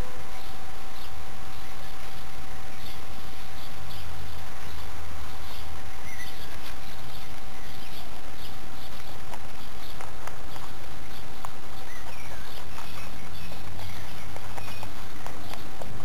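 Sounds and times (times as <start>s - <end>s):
microphone hiss and hum: 0.0s - 16.0s.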